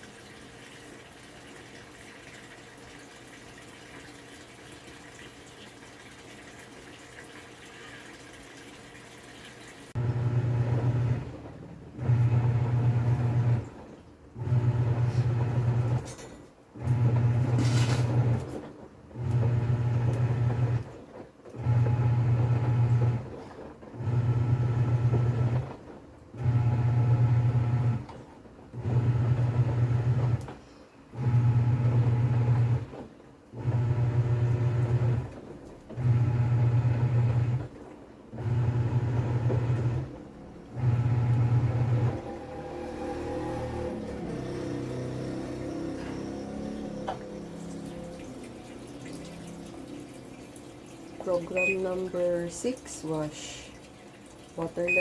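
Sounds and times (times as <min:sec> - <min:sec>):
washing machine motor agitating: 0:00.0 - 0:16.1, 0:16.7 - 0:55.0
water running into washing machine: 0:00.0 - 0:55.0.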